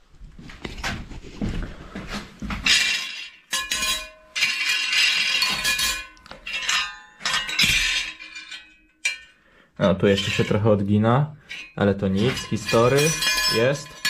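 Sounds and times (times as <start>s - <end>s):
metal letters clinking and scraping: 2.6s - 14.0s.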